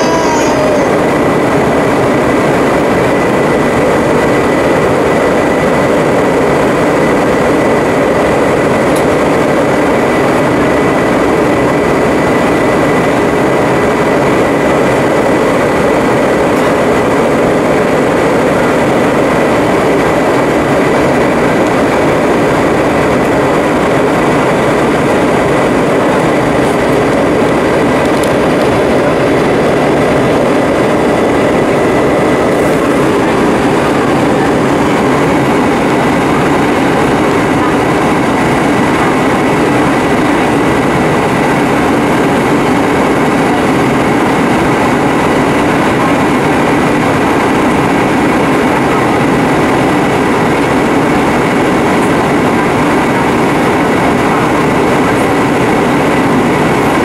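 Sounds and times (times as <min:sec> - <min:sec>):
airplane cabin jet noise: 0:00.0 - 0:57.0
thin steady whine: 0:00.0 - 0:57.0.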